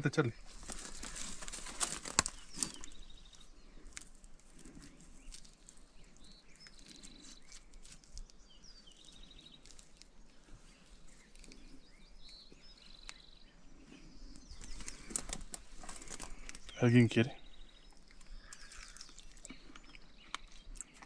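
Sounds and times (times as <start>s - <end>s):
faint bird chirps and trills: 0.0s - 21.0s.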